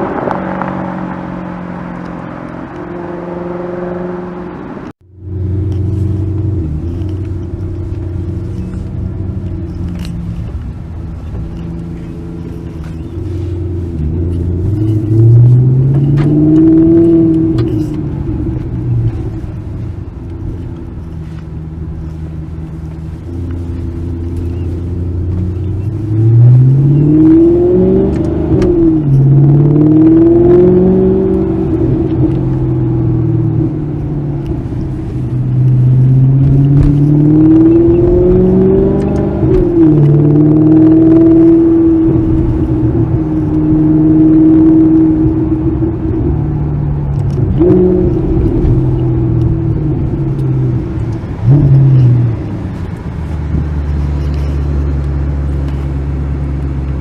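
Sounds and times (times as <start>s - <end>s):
sports car engine revving: 0.0s - 19.8s, 20.4s - 57.0s.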